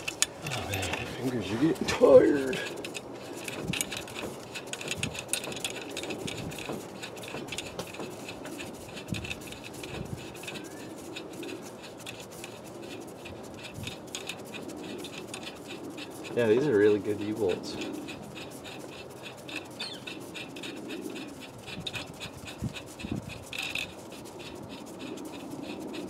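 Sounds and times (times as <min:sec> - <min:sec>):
small metallic clicks and scrapes: 0:00.0 - 0:26.0.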